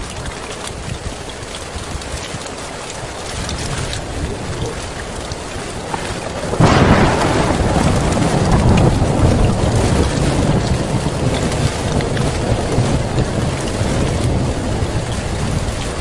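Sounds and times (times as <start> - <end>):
heavy rain: 0.0 - 16.0
thunder rumbling: 3.0 - 16.0.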